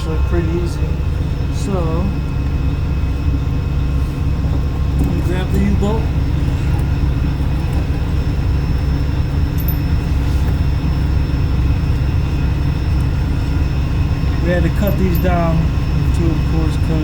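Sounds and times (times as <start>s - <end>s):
low machine drone: 0.0s - 17.0s.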